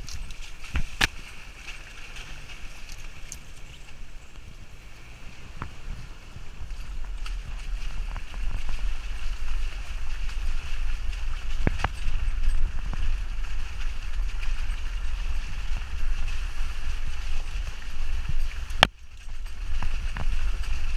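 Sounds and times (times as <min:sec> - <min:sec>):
engine rumble: 0:00.0 - 0:20.9.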